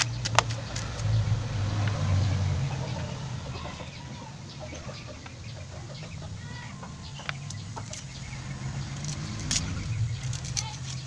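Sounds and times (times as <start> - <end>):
bird-like calls: 0.0 - 11.0.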